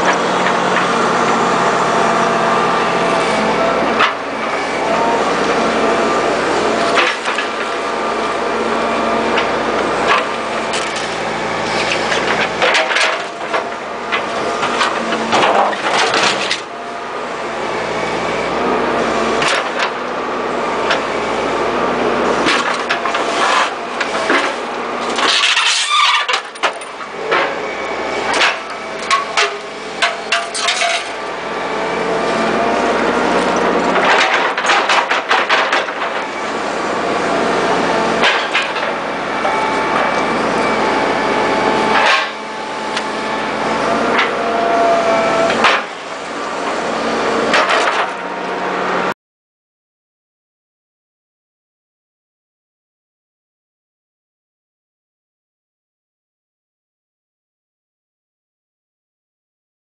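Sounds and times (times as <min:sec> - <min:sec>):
excavator diesel engine running: 0:00.0 - 0:49.2.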